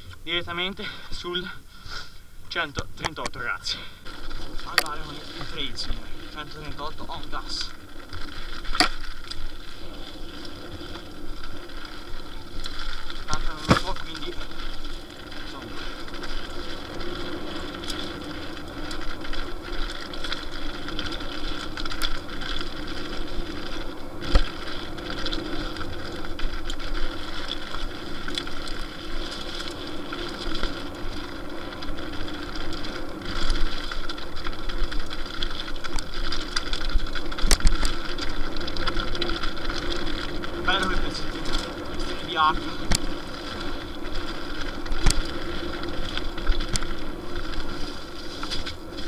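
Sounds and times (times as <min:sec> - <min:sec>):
bike rattling over stones: 0:00.0 - 0:49.0
bike tyre roar on gravel: 0:00.0 - 0:49.0.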